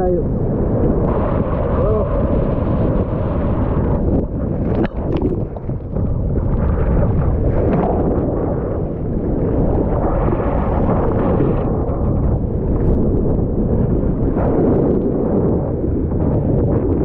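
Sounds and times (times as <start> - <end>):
sea surf: 0.0 - 16.8
wind buffeting microphone: 0.0 - 17.0.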